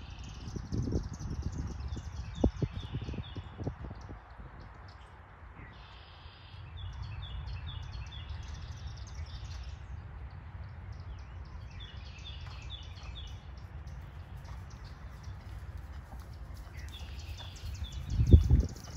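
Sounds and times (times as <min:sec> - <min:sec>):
songbird chirping: 0:00.0 - 0:18.9.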